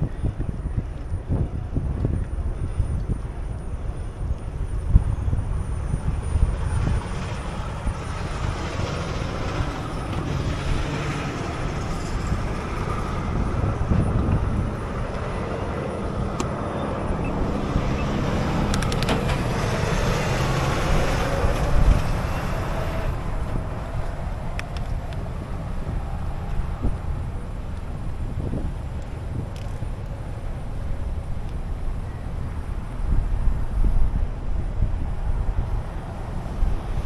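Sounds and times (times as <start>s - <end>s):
low wind rumble on microphone: 0.0s - 37.0s
cars driving past: 4.9s - 37.0s.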